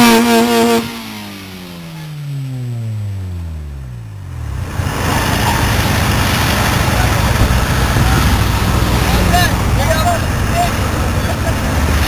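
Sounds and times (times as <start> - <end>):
car engine revs dropping: 0.0 - 12.0
rough engine rumble: 0.0 - 12.0.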